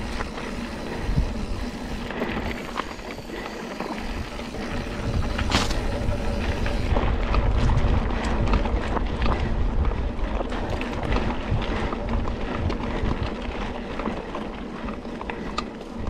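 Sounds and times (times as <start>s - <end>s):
bike rattles and knocks: 0.0s - 16.0s
wind buffeting microphone: 0.0s - 16.0s.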